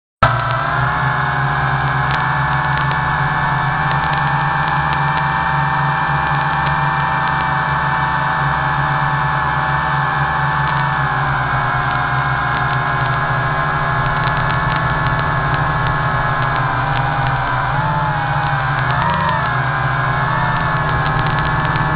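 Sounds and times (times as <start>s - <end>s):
low drone: 0.2s - 21.9s
quadcopter motors whining: 0.2s - 21.9s.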